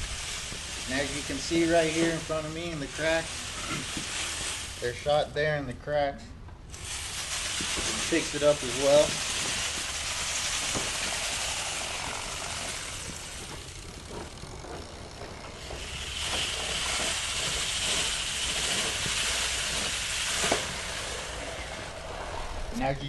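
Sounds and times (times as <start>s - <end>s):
steel shot hissing rattle: 0.0s - 5.1s, 6.7s - 14.4s, 15.5s - 22.0s.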